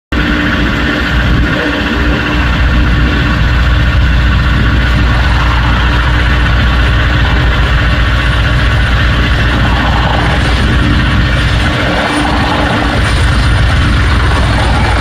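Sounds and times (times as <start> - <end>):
helicopter rotors and engines droning: 0.1 - 15.0.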